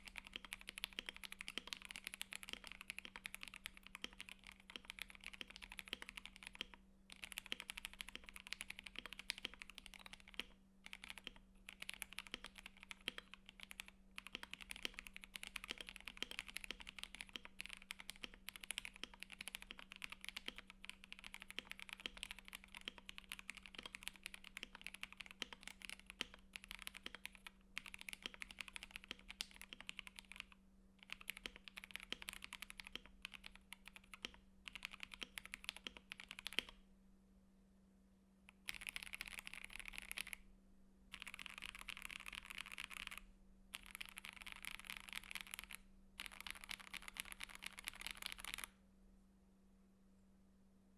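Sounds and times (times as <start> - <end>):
mechanical keyboard typing: 0.0 - 36.8, 38.5 - 40.4, 41.1 - 48.7.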